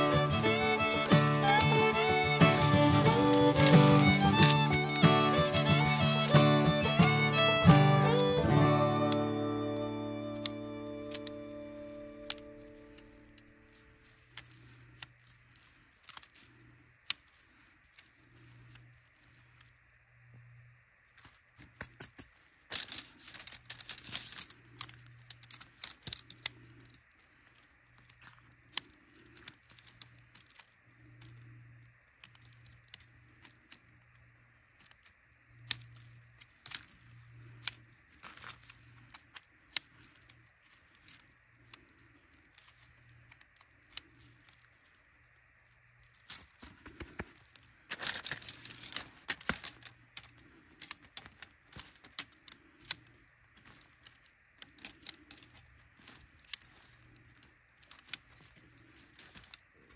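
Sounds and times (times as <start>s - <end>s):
tent pole sections clinking: 0.0s - 19.6s, 22.6s - 34.1s, 34.7s - 59.9s.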